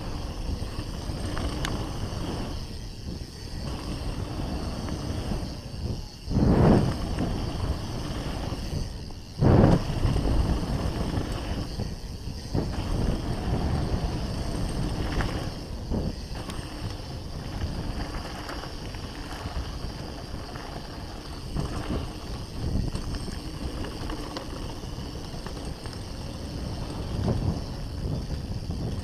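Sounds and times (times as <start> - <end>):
bike knocks and rattles: 0.0 - 29.0
bike tyres rolling on dirt: 0.0 - 29.0
wind buffeting microphone: 0.0 - 29.0.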